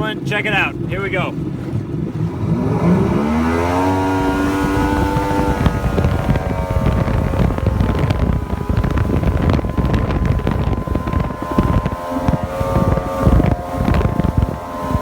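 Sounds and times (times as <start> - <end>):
personal watercraft engine running: 0.0 - 15.0
wind buffeting microphone: 0.0 - 15.0.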